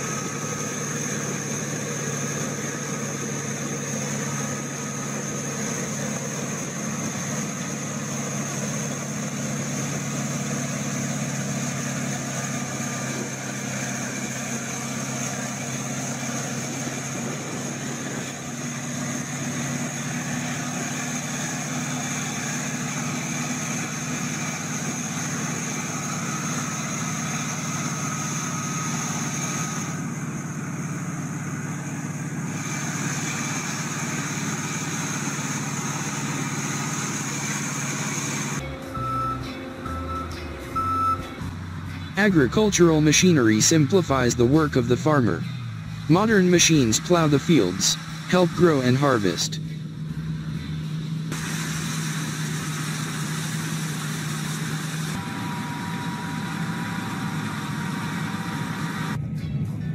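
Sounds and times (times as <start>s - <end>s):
diesel engine droning: 0.0s - 59.9s
steady high whine: 0.0s - 59.9s.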